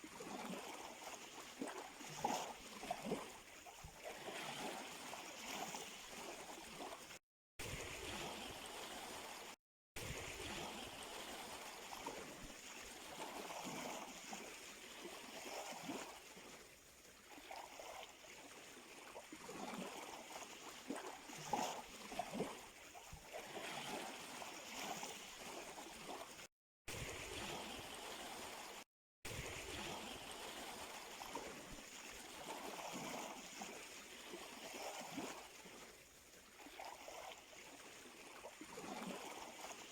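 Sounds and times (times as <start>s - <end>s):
sea waves lapping at shore: 0.0s - 39.9s.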